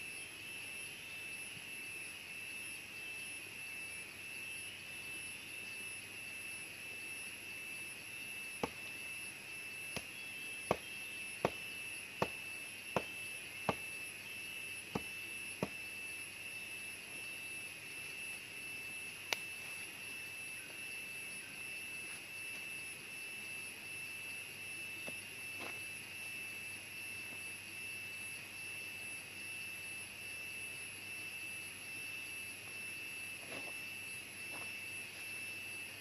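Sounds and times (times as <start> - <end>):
jungle insects droning: 0.0 - 36.0.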